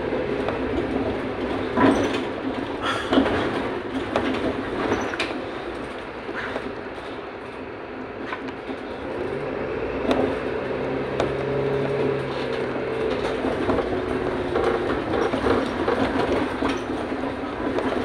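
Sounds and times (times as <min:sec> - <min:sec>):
diesel engine humming: 0:00.0 - 0:18.0
rattles and clicks of bus body: 0:00.0 - 0:18.0
road noise: 0:00.0 - 0:18.0.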